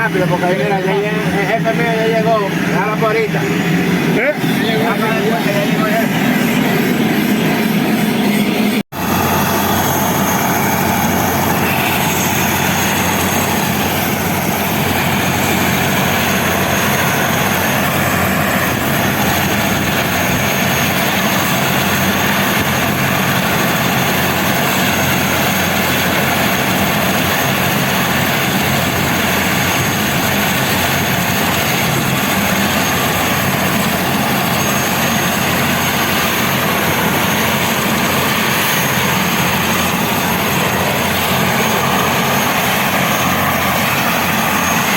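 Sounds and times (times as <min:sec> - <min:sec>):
helicopter engine and rotor: 0:00.0 - 0:44.9
turbine whine: 0:00.0 - 0:44.9.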